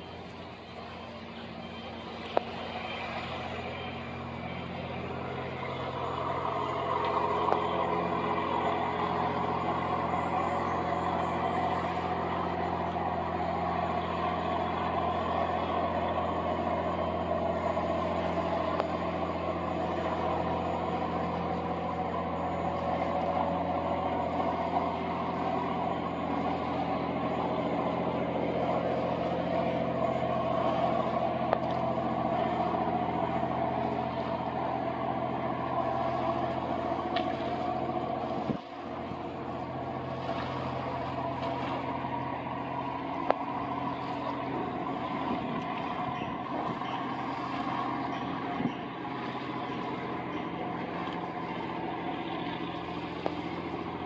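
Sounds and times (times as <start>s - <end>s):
boat diesel engine droning: 0.0s - 54.0s.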